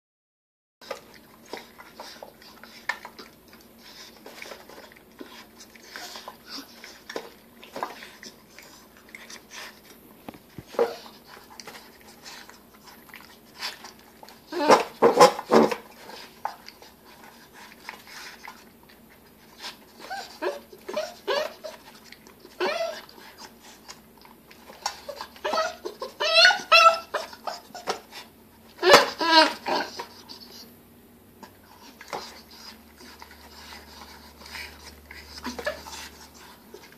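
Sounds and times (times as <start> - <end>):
puppy vocal noises: 0.8 - 30.8, 31.4 - 36.9
puppy chewing: 0.8 - 36.9.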